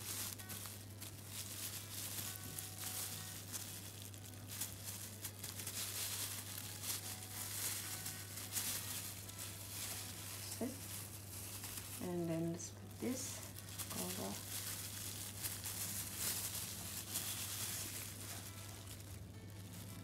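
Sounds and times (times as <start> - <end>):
plastic gloves crinkling: 0.0 - 20.0.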